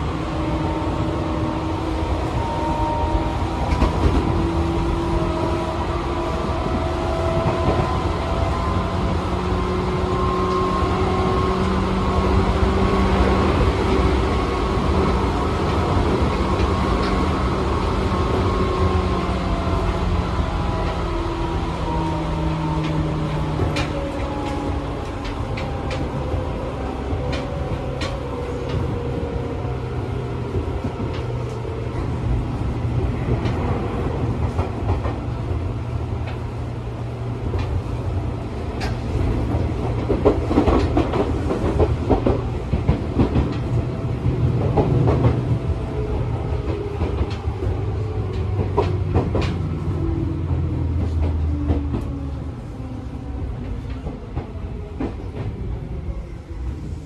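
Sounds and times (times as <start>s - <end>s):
train motors and wheels rumbling: 0.0s - 57.0s.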